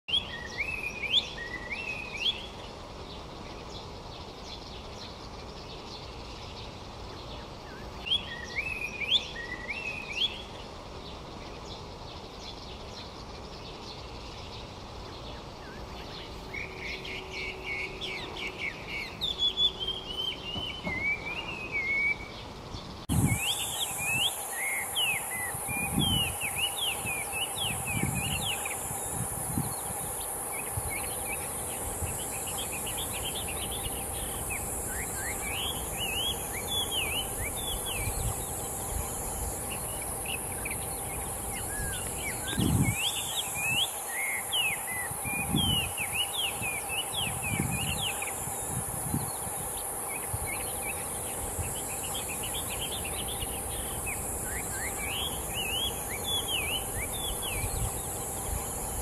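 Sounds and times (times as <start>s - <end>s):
bird singing whistled notes: 0.1s - 59.0s
high insect buzz: 0.2s - 59.0s.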